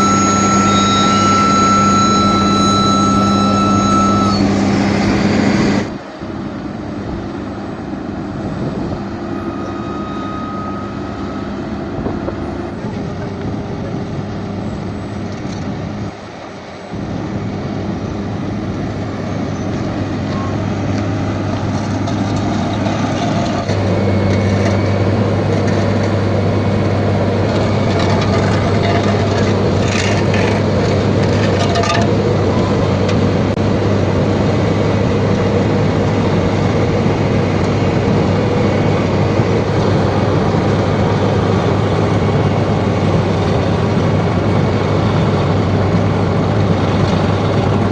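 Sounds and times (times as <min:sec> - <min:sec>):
construction machine diesel engine: 0:00.0 - 0:47.9.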